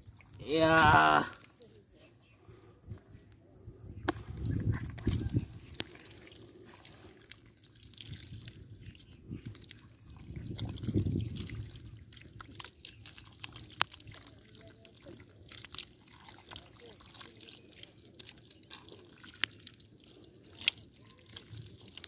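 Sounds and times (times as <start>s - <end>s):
hands squelching in wet mud: 0.0s - 1.8s, 3.8s - 22.0s
water dripping: 3.8s - 22.0s.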